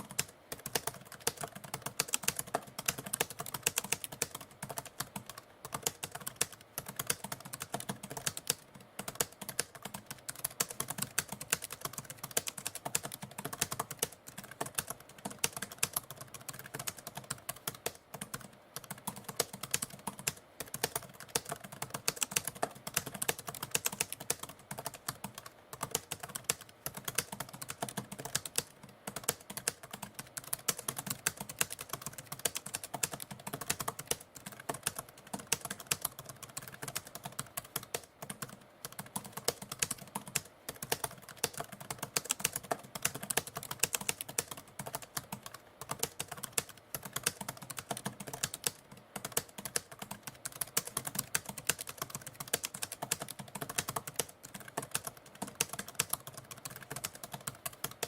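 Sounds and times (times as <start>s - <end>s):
typewriter keys clicking: 0.0s - 58.0s.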